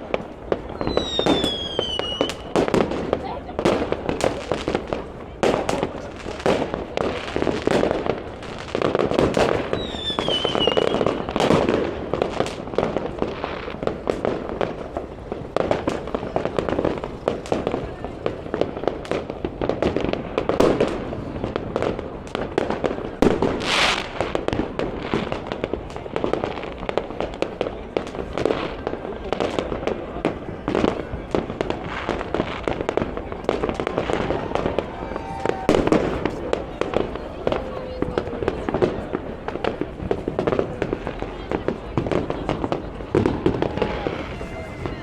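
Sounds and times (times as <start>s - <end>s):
fireworks bangs and crackles: 0.0s - 45.0s
people's voices: 0.0s - 45.0s.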